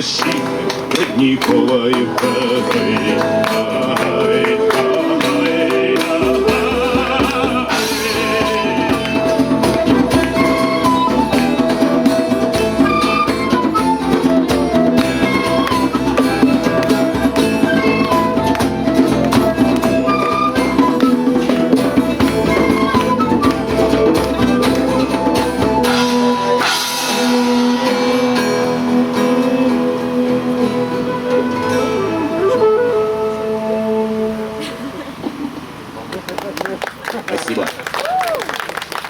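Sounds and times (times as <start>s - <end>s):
band playing instrumental: 0.0s - 36.5s.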